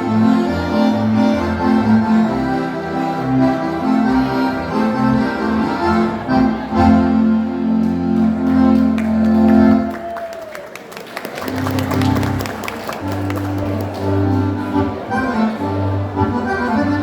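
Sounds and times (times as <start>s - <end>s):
accordion dance music: 0.0s - 10.0s, 11.2s - 17.0s.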